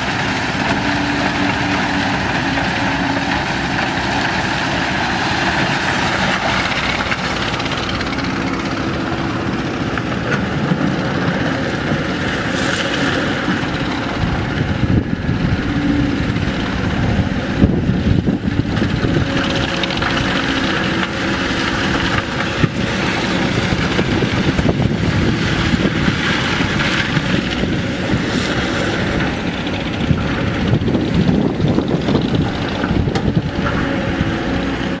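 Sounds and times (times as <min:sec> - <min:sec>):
excavator diesel engines running: 0:00.0 - 0:35.0.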